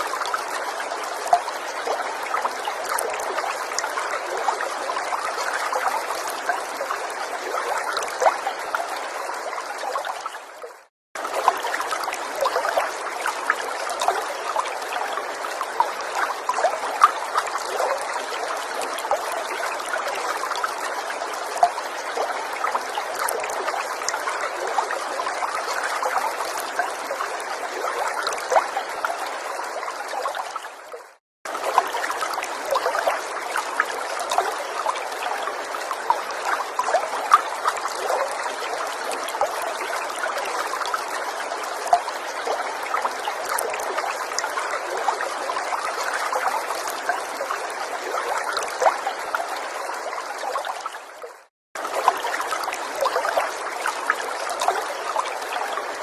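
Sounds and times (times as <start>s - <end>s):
forest stream trickling: 0.0s - 56.0s.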